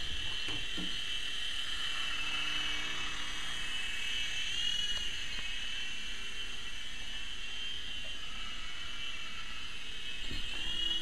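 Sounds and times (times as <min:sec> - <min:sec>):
toy helicopter rotor whine: 0:00.0 - 0:11.0.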